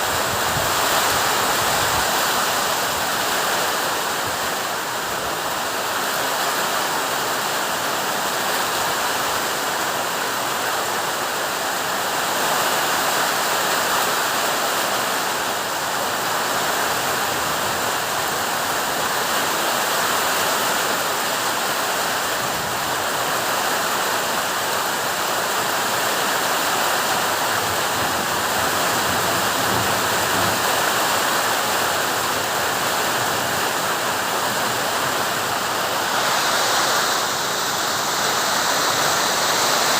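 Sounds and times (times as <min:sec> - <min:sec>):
heavy rain pouring: 0:00.0 - 0:39.9
strong wind: 0:00.0 - 0:39.9.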